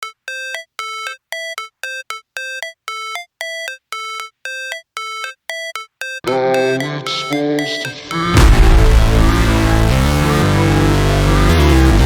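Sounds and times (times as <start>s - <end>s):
electronic synth melody: 0.0s - 12.0s.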